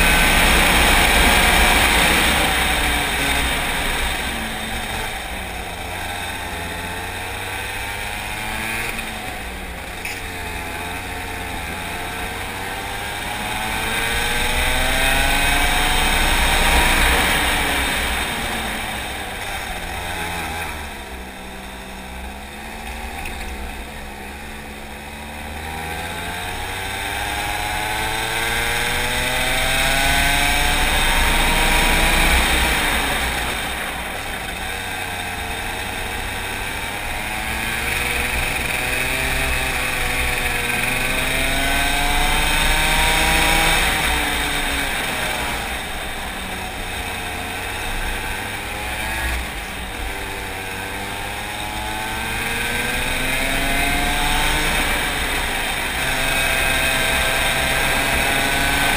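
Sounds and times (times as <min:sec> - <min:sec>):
go-kart engine accelerating: 0:00.0 - 0:58.9.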